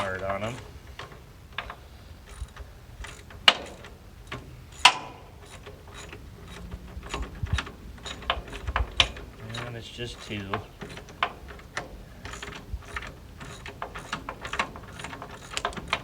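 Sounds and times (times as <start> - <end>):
ratchet wrench clicking: 0.0 - 16.0.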